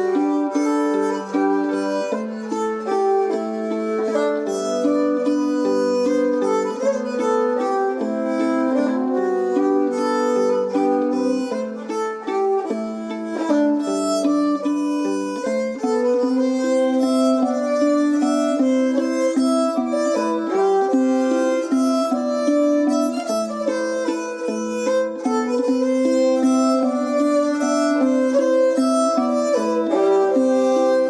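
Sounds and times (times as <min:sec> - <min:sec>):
fiddle folk melody: 0:00.0 - 0:31.0
plucked string accompaniment: 0:00.0 - 0:31.0.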